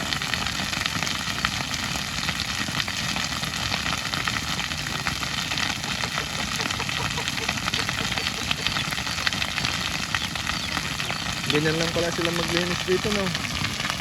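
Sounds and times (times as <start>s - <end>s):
grass fire crackling: 0.0s - 14.0s.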